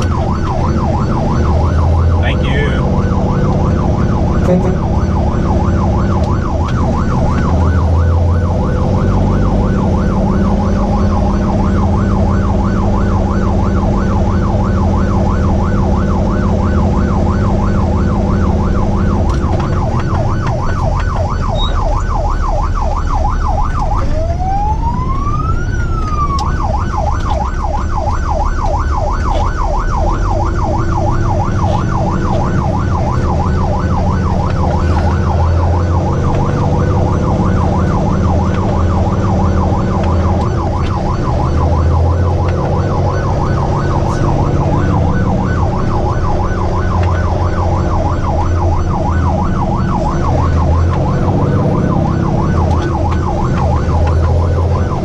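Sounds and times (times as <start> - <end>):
diesel engine running: 0.0 - 55.0
electronic siren yelping: 0.0 - 55.0.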